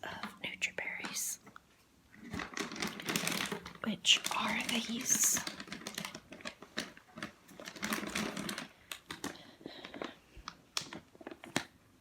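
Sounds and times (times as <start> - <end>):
plastic packaging crinkling: 2.1 - 11.8.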